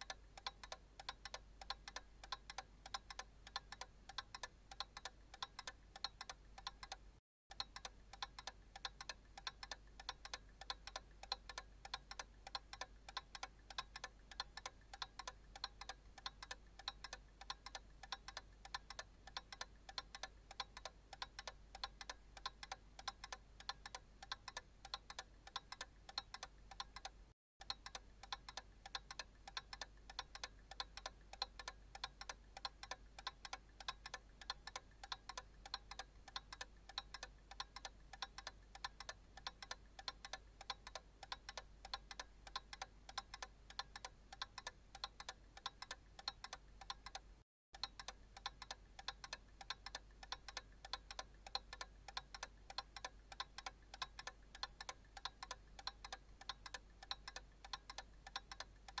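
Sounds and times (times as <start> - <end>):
analog clock ticking: 0.0 - 59.0.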